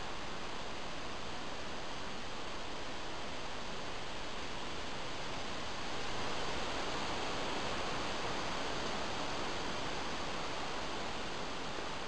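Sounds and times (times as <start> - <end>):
steady microphone hiss: 0.0 - 12.0.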